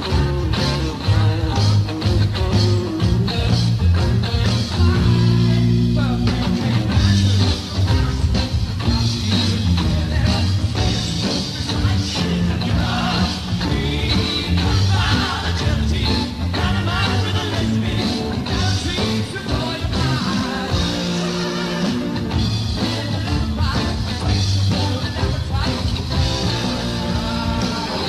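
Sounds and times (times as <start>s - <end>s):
live rock band playing: 0.0s - 28.0s
man singing: 0.0s - 28.0s.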